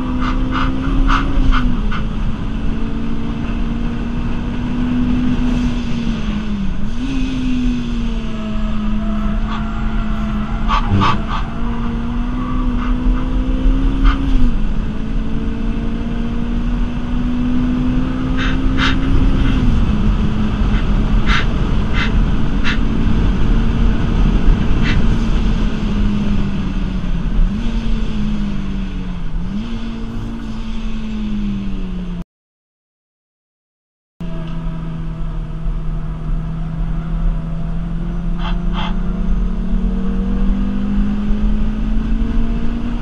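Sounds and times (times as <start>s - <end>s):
car engine pulling: 0.0s - 32.2s, 34.2s - 43.0s.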